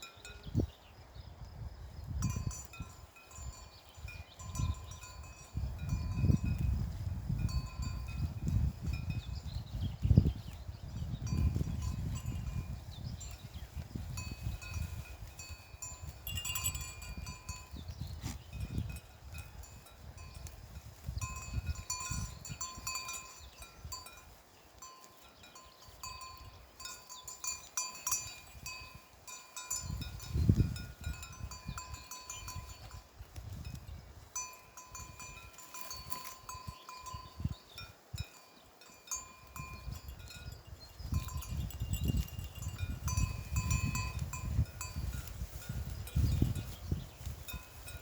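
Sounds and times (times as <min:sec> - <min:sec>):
goat bells clanking: 0:02.1 - 0:48.0.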